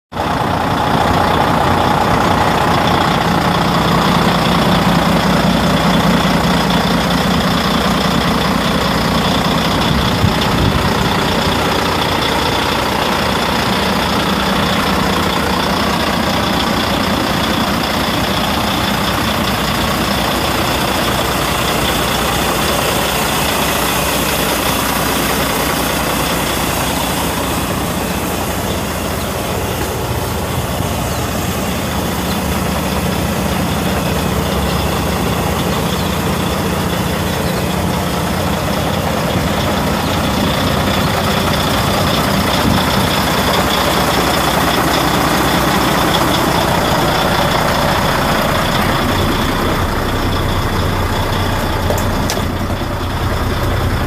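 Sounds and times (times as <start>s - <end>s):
diesel truck engine idling: 0.1s - 54.0s.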